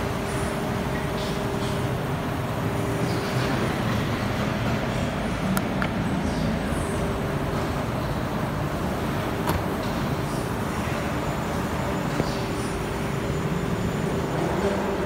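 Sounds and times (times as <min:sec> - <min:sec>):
steady noisy hum: 0:00.0 - 0:15.0.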